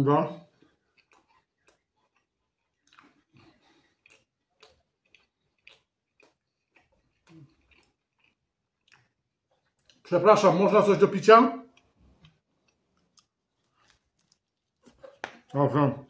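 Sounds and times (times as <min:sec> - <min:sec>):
man chewing food: 0:00.4 - 0:10.1, 0:11.6 - 0:15.6.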